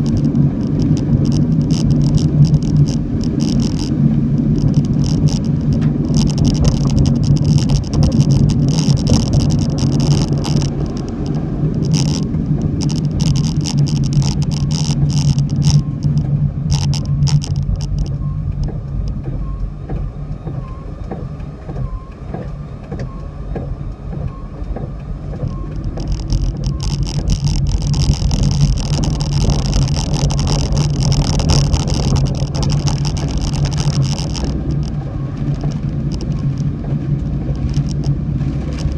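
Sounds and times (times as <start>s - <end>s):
car engine and road drone: 0.0s - 38.9s.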